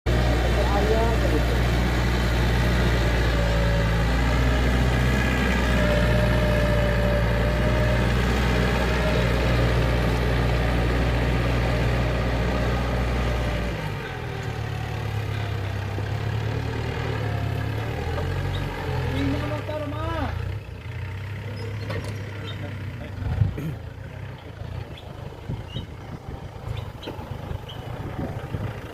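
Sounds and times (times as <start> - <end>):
engine running: 0.0 - 28.9.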